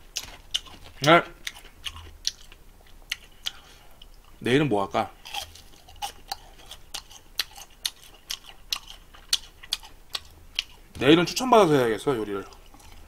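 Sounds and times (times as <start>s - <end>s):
crispy food crunching: 0.1s - 4.4s, 5.2s - 13.0s.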